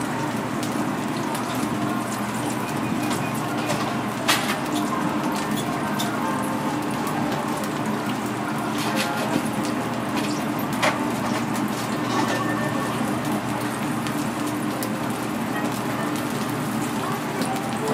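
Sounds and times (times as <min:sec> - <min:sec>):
restaurant room hiss: 0:00.0 - 0:17.9.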